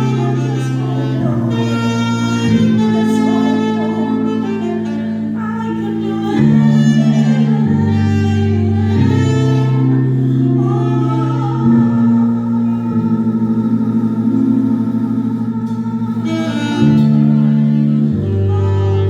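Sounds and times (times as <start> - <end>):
slow instrumental music: 0.0 - 19.0.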